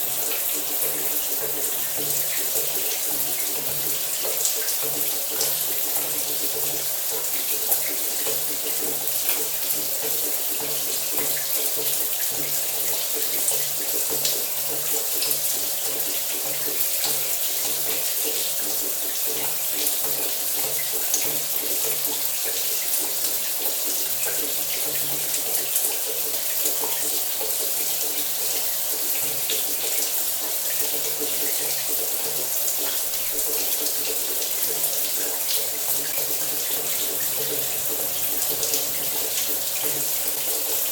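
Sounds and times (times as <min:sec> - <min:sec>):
shower water running: 0:00.0 - 0:40.9.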